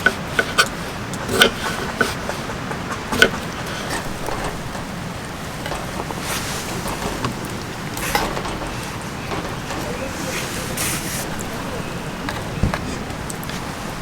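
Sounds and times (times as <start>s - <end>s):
camp cookware clinking: 0.0s - 14.0s
steady hiss: 0.0s - 14.0s.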